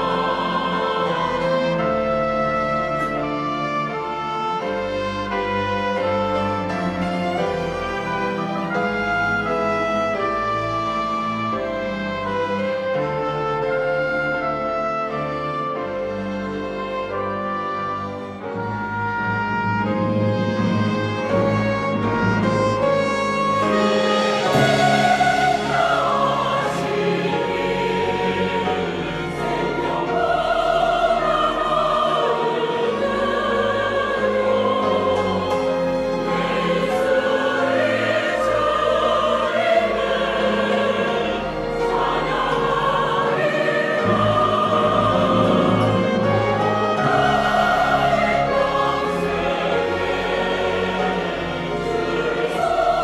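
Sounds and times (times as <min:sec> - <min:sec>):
choir singing: 0:00.0 - 0:53.0
organ notes: 0:00.0 - 0:53.0
piano: 0:00.0 - 0:53.0.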